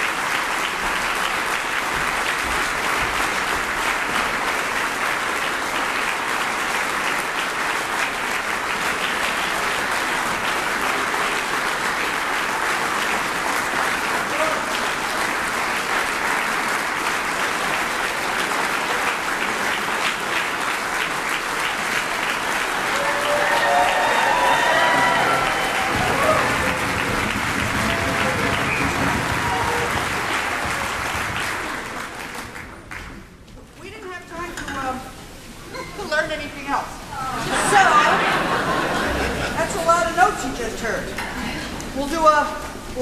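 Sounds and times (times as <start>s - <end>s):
audience applauding: 0.0s - 33.4s, 37.4s - 42.0s.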